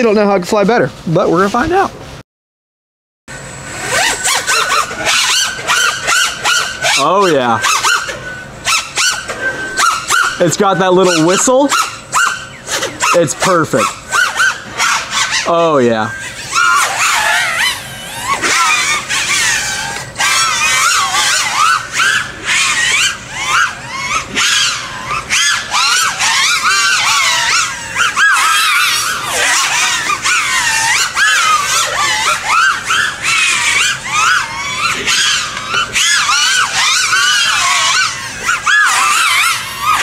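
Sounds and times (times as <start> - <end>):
quadcopter motors whining: 3.3 - 40.0.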